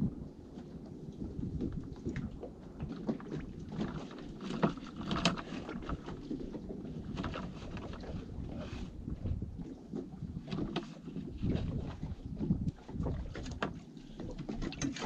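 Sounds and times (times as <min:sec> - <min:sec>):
low boat rumble: 0:00.0 - 0:15.0.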